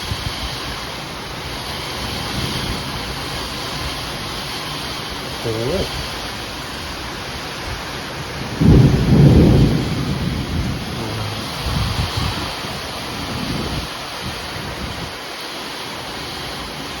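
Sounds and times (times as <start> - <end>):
thunder rumble: 0.0 - 15.2
wind buffeting microphone: 0.0 - 15.3
heavy rain: 0.0 - 17.0.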